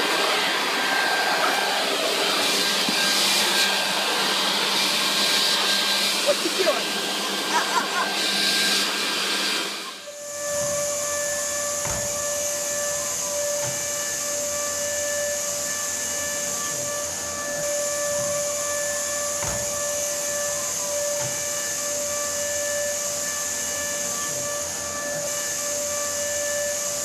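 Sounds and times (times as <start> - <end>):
robot vacuum whine: 0.0 - 27.0.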